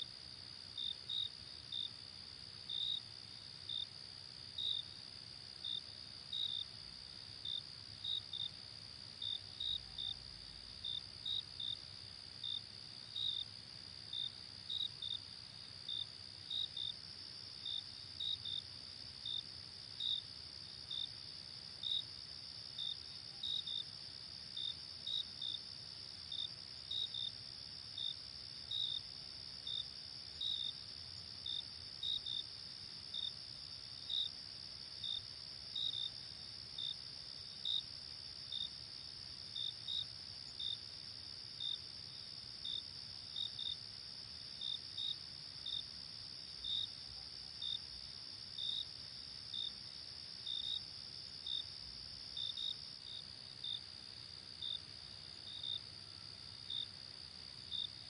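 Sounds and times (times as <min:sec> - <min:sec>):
crickets trilling and chirping: 0:00.0 - 0:58.0.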